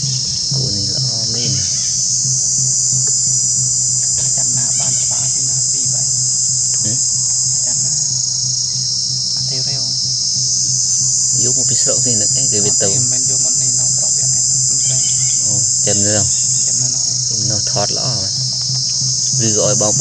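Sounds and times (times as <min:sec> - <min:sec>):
faint voices: 0:00.0 - 0:10.2, 0:11.3 - 0:20.0
insect chorus droning: 0:00.0 - 0:20.0
low steady hum: 0:00.0 - 0:20.0.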